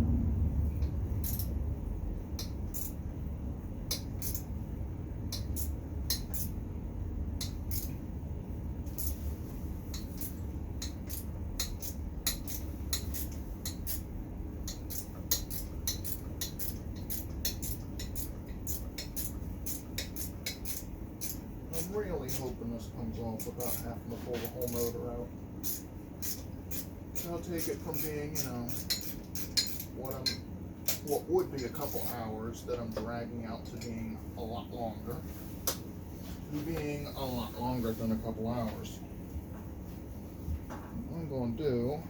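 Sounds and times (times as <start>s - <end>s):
steady low rumble: 0.0s - 42.0s.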